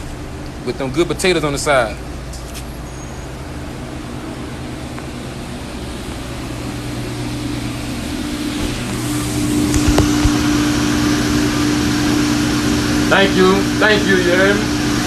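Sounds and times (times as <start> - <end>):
mechanical hum with fan noise: 0.0 - 15.0.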